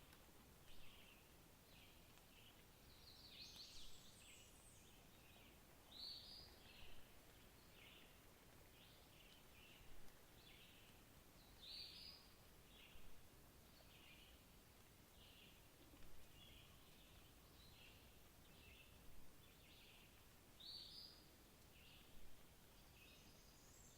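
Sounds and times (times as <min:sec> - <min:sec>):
background hiss: 0:00.0 - 0:23.9.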